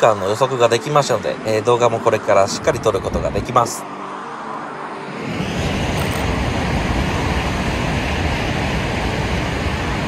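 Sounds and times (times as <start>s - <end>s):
high-speed train passing: 0.0s - 10.0s.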